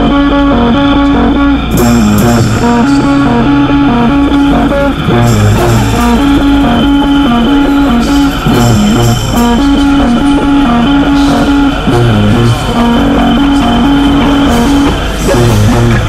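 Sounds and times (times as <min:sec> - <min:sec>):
bass guitar: 0:00.0 - 0:16.0
electric guitar: 0:00.0 - 0:16.0
rock music: 0:00.0 - 0:16.0.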